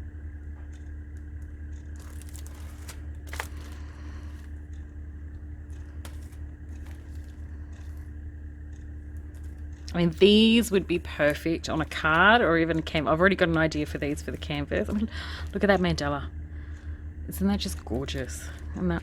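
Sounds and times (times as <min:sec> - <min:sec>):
low hum: 0:00.0 - 0:19.0
crinkling and scraping of sheets: 0:01.2 - 0:19.0.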